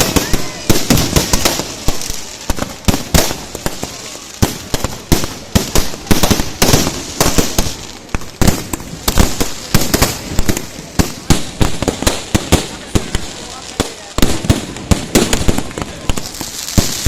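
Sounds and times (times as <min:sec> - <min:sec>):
firecrackers banging and crackling: 0:00.0 - 0:17.0.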